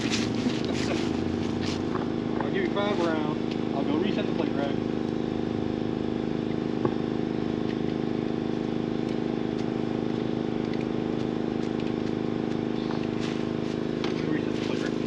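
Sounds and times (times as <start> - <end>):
motor idling hum: 0.0 - 15.0.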